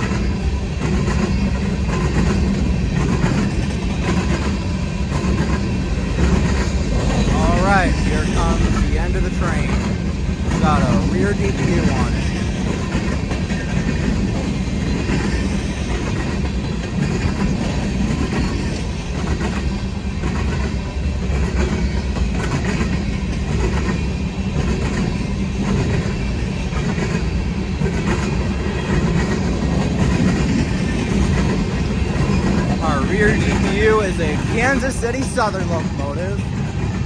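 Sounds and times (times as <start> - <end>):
steel wheels rumbling on rail: 0.0 - 37.0
wheels clicking over rail joints: 0.0 - 37.0.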